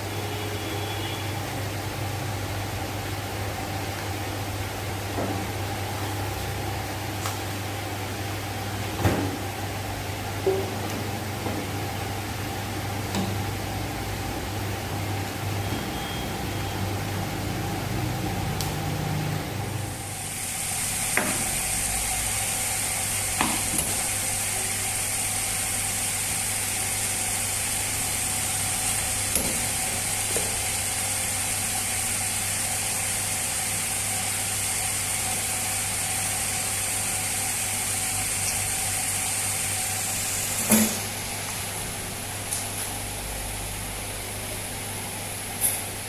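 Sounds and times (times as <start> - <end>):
kitchen hiss and hum: 0.0 - 46.0.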